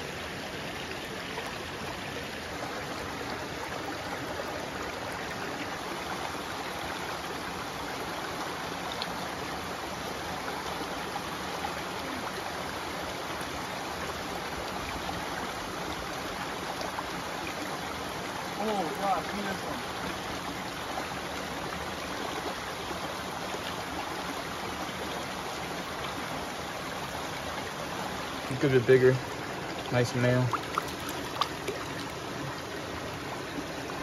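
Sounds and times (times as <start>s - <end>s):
creek running over rocks: 0.0s - 34.0s.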